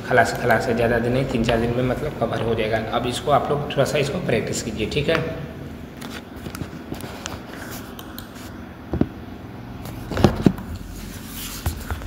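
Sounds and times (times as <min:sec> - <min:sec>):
room noise: 0:00.0 - 0:12.0.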